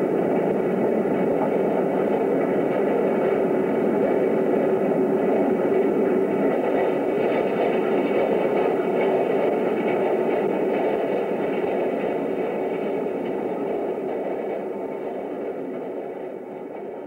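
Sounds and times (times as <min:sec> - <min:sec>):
train rushing rumble: 0:00.0 - 0:17.0.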